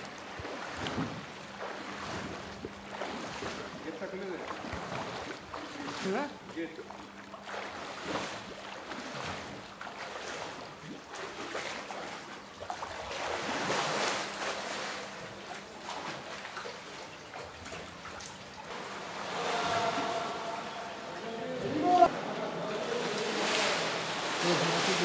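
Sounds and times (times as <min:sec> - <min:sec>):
swimmer splashing water: 0:00.0 - 0:25.0.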